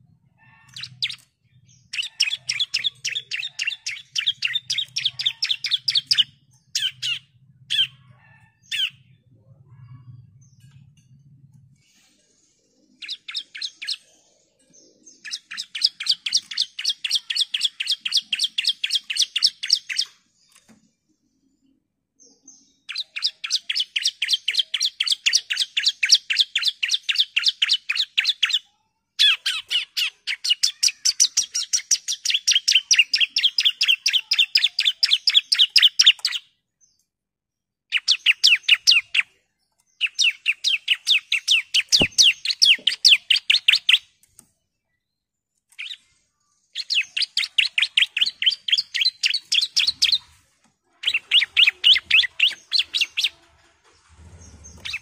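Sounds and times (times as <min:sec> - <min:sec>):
bird rapid chirping song: 0:00.0 - 0:11.1, 0:12.7 - 0:20.7, 0:21.6 - 0:37.0, 0:37.9 - 0:45.1, 0:45.7 - 0:55.0.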